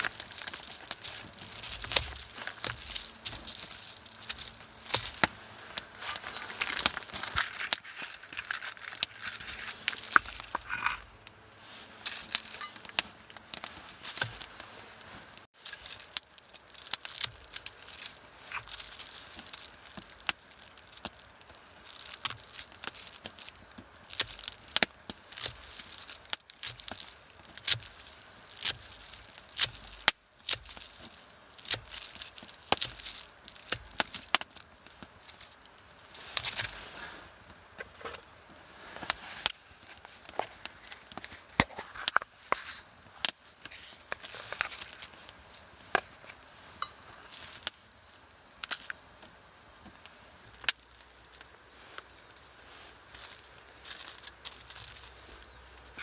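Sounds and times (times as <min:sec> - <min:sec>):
material crinkling and crackling: 0:00.0 - 0:56.0.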